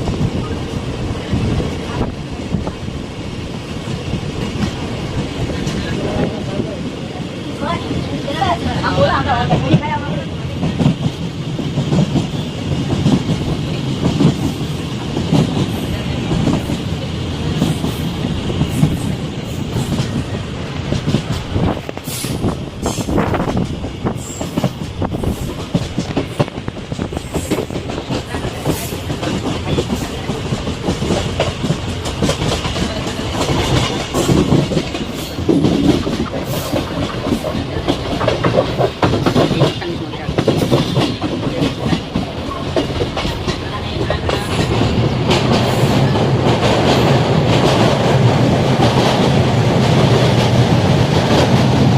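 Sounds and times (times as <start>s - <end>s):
train coach rumbling: 0.0s - 51.9s
wheels clicking over rail joints: 7.6s - 51.9s.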